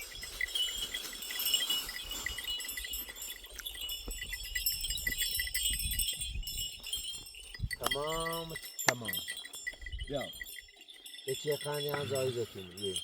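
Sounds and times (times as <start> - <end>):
animal bells jingling: 0.0 - 13.0.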